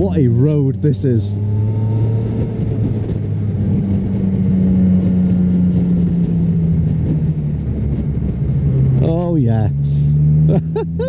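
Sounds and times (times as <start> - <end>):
motorcycle engine cruising: 0.0 - 11.0
rushing wind: 0.0 - 11.0.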